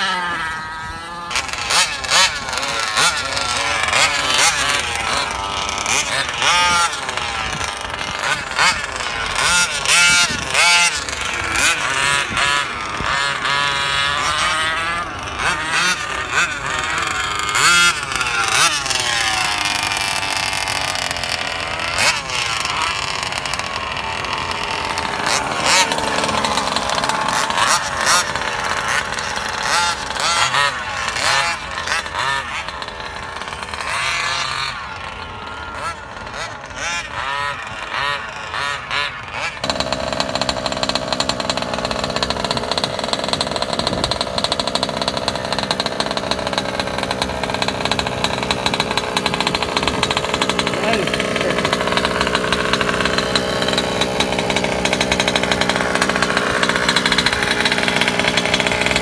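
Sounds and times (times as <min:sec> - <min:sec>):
rc car engine revving: 0:00.0 - 0:59.0.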